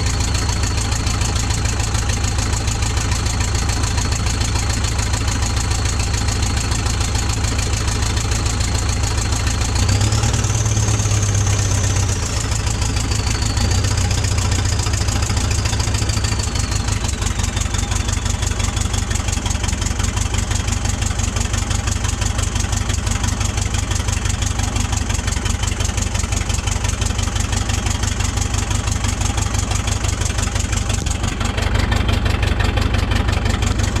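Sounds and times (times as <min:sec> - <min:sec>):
diesel engine revving: 0:00.0 - 0:34.0.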